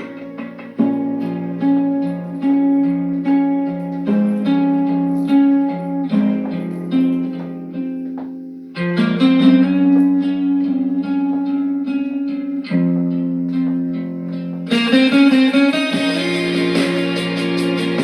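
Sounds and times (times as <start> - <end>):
guitar-led instrumental music: 0.0 - 18.0.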